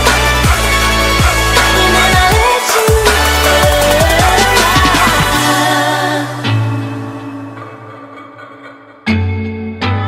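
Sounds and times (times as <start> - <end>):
pop song with singing: 0.0 - 8.9.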